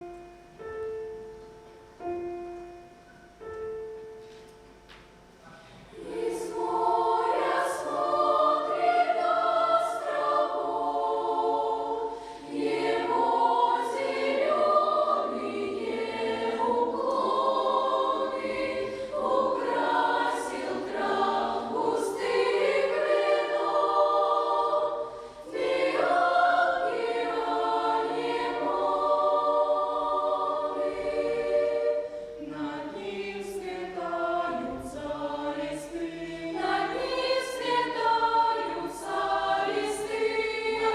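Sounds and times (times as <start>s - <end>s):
choir singing: 5.8s - 40.9s.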